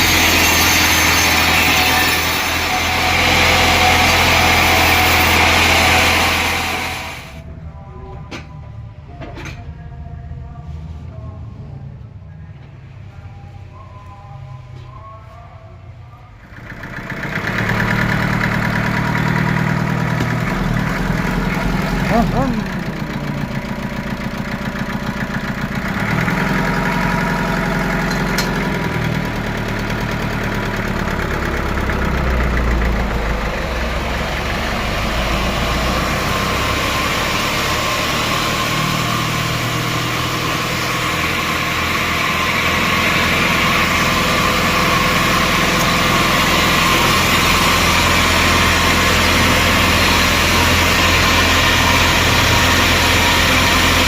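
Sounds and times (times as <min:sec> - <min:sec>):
engine running: 0:00.0 - 0:09.2, 0:16.4 - 0:54.0.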